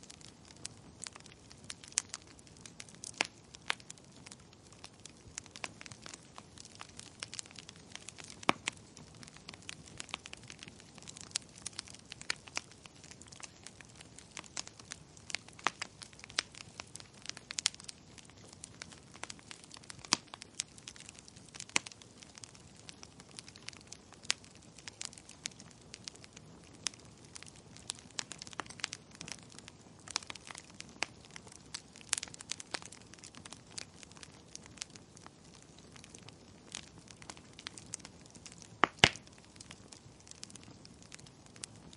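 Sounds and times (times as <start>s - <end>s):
soft steady hiss: 0.0s - 41.9s
wood fire crackling: 0.0s - 41.9s.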